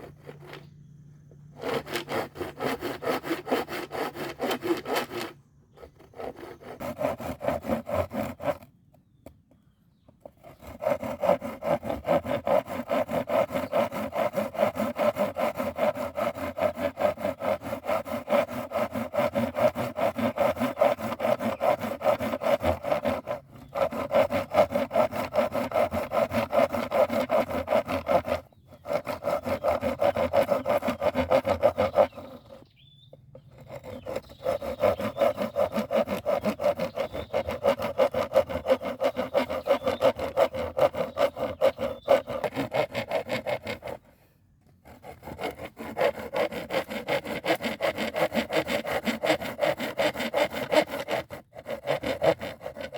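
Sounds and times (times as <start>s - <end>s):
hand saw cutting wood: 0.0s - 8.8s, 10.2s - 52.9s.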